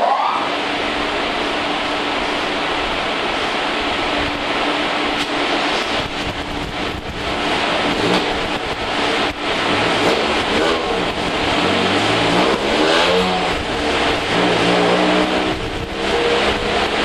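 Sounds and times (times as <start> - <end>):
race car engine revving on a dyno: 0.0 - 17.0
steady rushing noise: 0.0 - 17.0.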